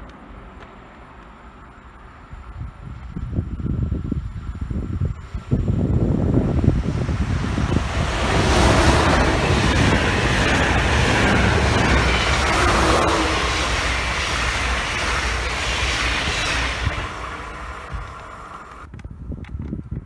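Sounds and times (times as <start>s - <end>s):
train wheels rushing on rails: 0.0s - 19.0s.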